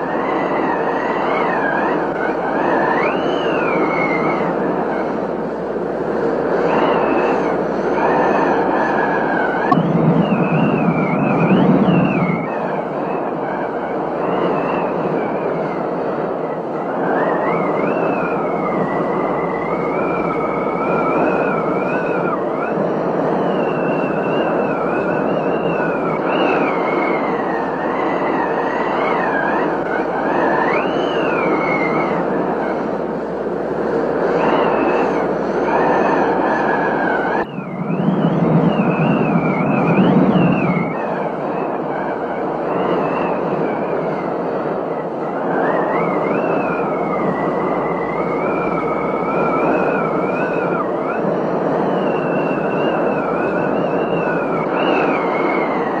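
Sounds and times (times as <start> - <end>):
high wavering whistle: 0.0 - 5.4, 6.4 - 33.0, 34.1 - 56.0.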